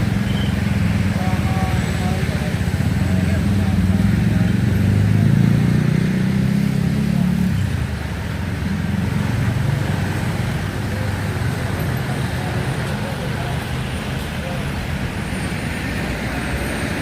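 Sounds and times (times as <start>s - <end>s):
road traffic rumble: 0.0s - 17.0s
vehicle engine running: 0.0s - 17.0s.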